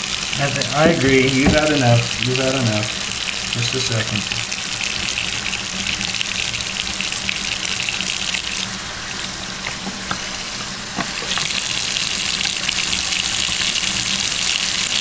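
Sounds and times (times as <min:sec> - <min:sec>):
sink tap running: 0:00.0 - 0:15.0.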